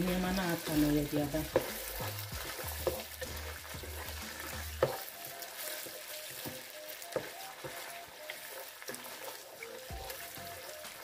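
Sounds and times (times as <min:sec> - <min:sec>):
oil sizzling in a pot: 0:00.0 - 0:11.0
wooden spatula scraping: 0:00.0 - 0:11.0.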